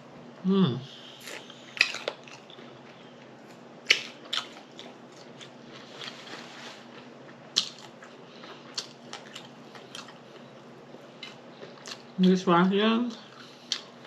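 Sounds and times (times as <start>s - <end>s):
person chewing food: 0.9s - 12.2s, 13.1s - 14.0s.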